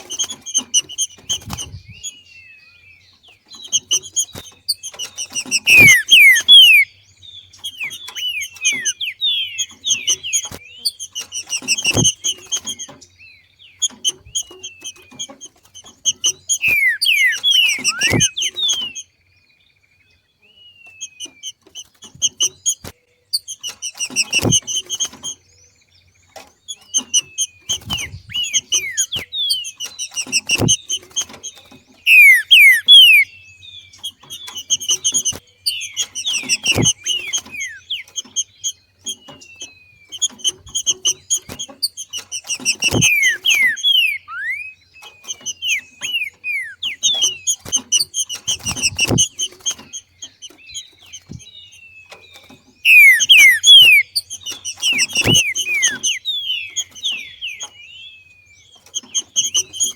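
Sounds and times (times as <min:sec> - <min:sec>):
bird chatter of whistled notes: 0:00.0 - 0:19.2, 0:20.2 - 0:59.9.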